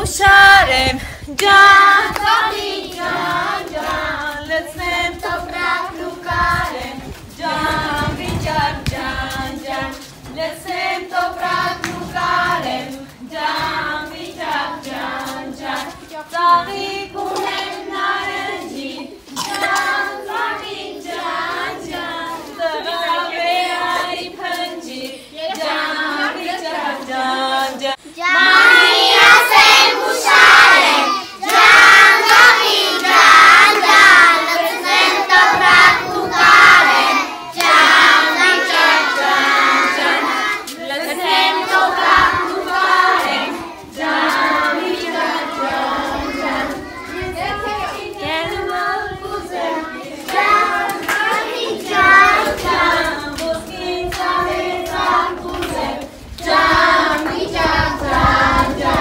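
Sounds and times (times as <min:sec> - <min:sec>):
children and women singing: 0:00.0 - 0:59.0.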